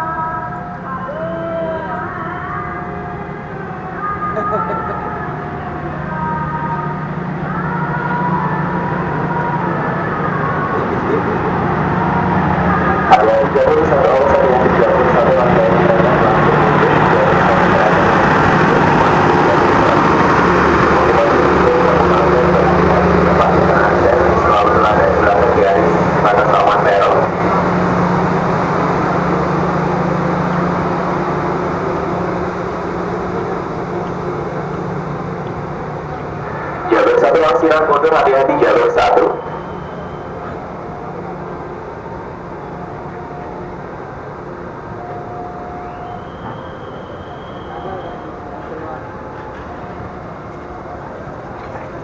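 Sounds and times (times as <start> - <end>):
diesel train engine humming: 0.0 - 52.0
high steady whining tones: 0.0 - 52.0.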